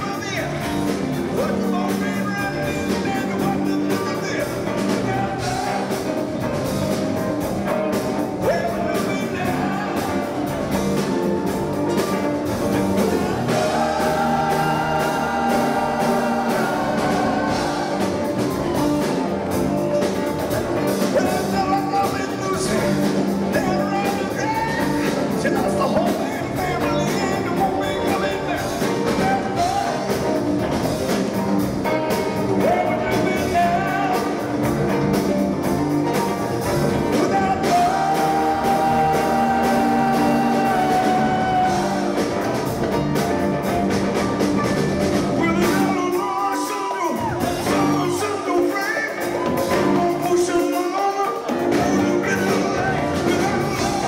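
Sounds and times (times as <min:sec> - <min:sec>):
lead vocal singing: 0:00.0 - 0:30.8, 0:32.1 - 0:35.6, 0:36.3 - 0:43.6, 0:45.2 - 0:54.0
live rock band: 0:00.0 - 0:54.0.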